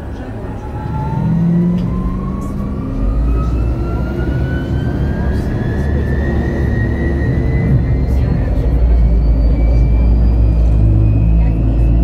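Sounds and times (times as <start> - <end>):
bus drive whine rising: 0.0 - 12.0
low rumble: 0.0 - 12.0.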